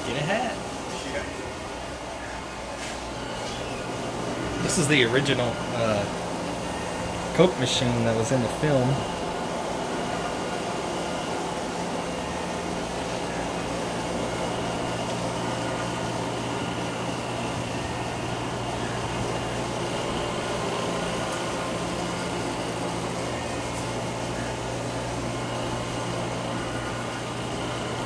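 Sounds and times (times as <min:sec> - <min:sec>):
indoor machinery whirring: 0:00.0 - 0:28.0
low electrical drone: 0:00.0 - 0:28.0.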